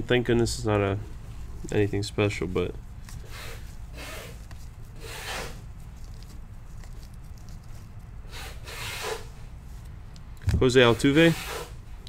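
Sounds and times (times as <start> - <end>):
low steady hum: 0.0 - 12.0
trading cards sliding and rubbing: 1.3 - 9.9, 10.7 - 11.9.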